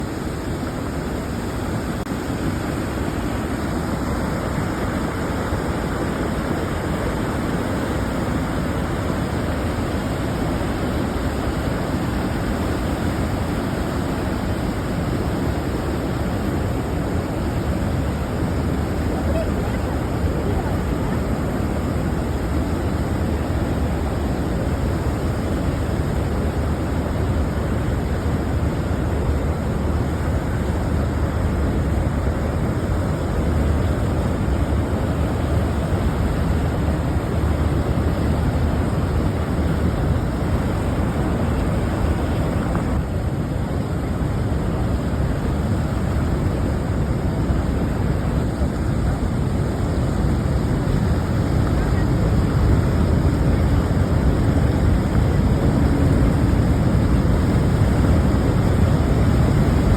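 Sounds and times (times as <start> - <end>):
heavy rush of falling water: 0.0 - 59.9.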